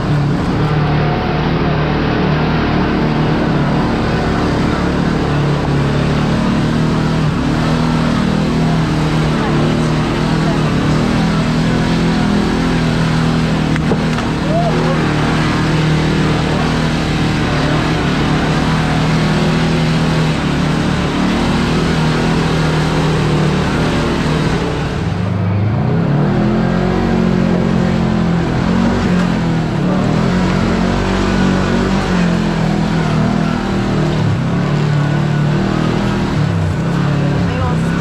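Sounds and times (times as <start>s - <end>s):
engine revving: 0.0s - 38.0s.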